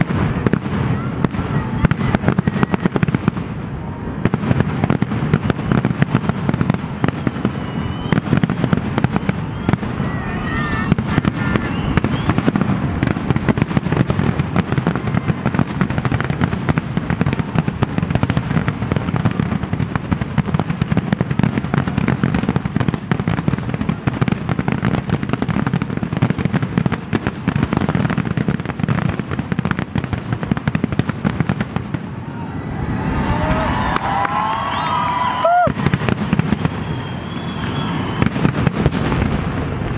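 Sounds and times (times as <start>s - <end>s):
fireworks popping and banging: 0.0s - 32.2s, 33.4s - 39.9s.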